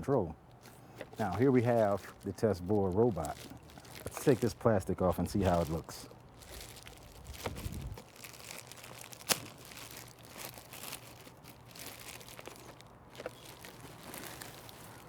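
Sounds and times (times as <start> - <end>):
plastic wrapping crinkling and tearing: 0.5 - 15.0.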